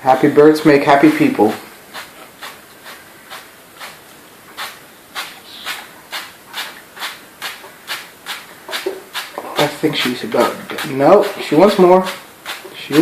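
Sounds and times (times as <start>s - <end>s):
hissing bursts of sprayed water: 1.4s - 13.0s.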